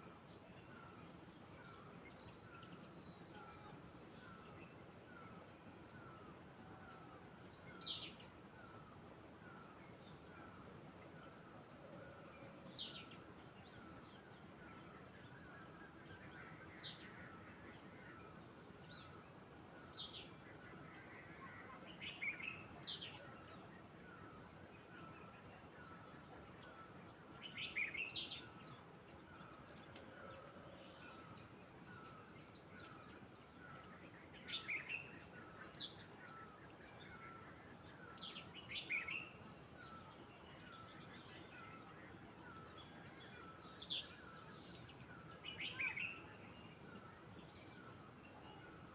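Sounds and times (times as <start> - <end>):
constant soft hiss: 0.0 - 48.9.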